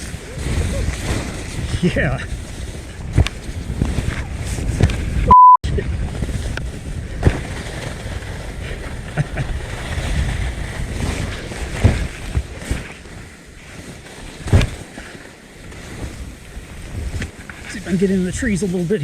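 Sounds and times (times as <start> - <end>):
skis scraping over snow: 0.0 - 5.3, 5.9 - 19.0
wind rumbling on microphone: 0.0 - 18.9.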